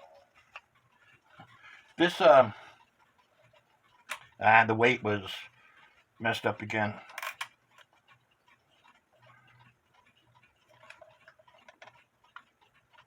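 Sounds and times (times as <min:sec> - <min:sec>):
wall clock ticking faintly: 0:00.0 - 0:13.0.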